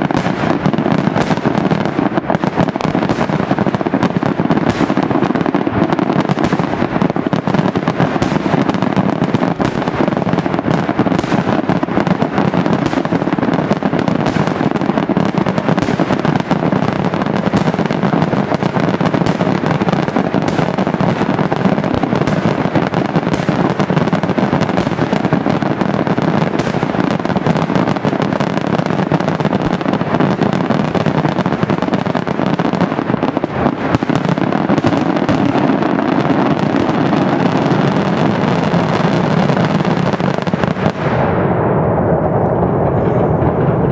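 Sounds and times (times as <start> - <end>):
fireworks crackling bangs: 0.0 - 43.9.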